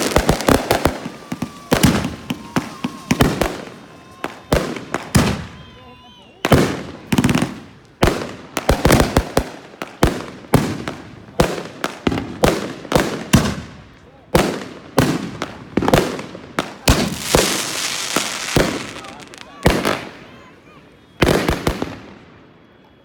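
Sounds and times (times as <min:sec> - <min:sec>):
fireworks banging: 0:00.0 - 0:05.8, 0:06.4 - 0:20.4.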